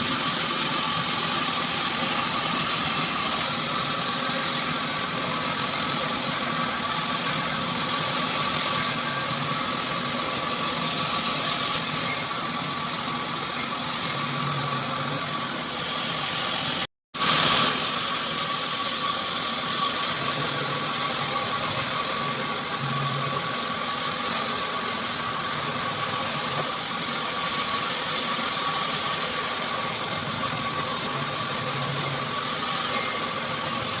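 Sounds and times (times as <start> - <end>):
band sawmill droning and whining: 0.0 - 34.0.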